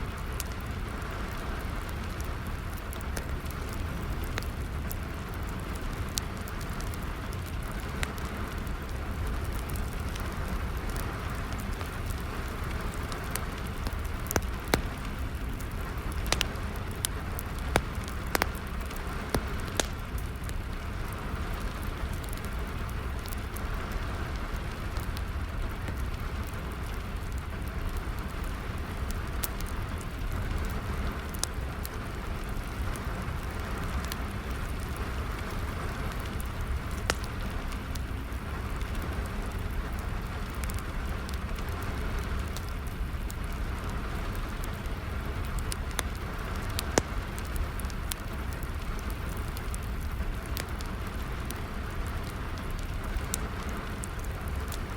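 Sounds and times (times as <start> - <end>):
steady rain: 0.0 - 54.9
wood fire crackling and popping: 0.0 - 54.9.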